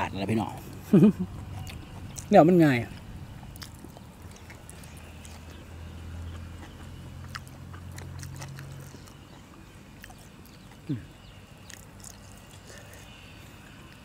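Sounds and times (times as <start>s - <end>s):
chewing and crunching: 0.0s - 14.0s
low hum: 0.0s - 14.0s.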